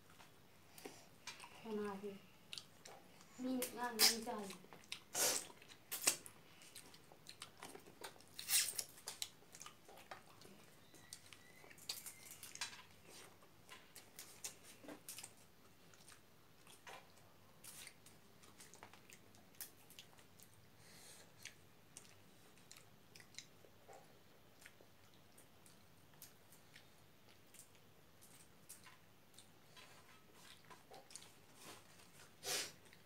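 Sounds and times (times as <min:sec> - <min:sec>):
people chewing and lip-smacking: 0:02.5 - 0:03.3, 0:04.4 - 0:33.0.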